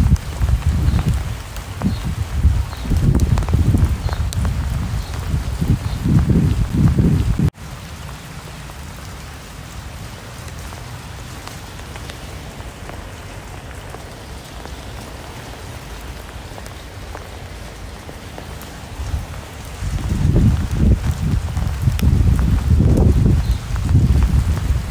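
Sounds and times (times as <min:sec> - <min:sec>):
rain falling steadily: 0:00.0 - 0:24.9.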